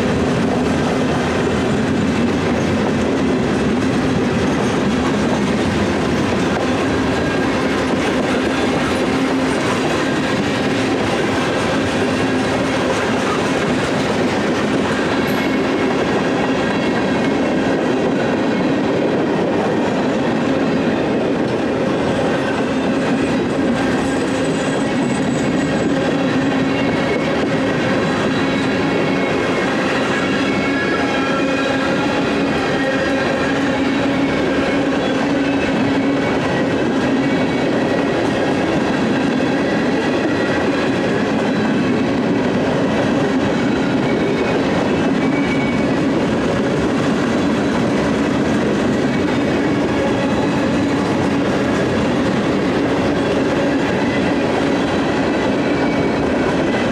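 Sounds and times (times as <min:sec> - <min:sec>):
freight train wheels clattering: 0:00.0 - 0:56.9.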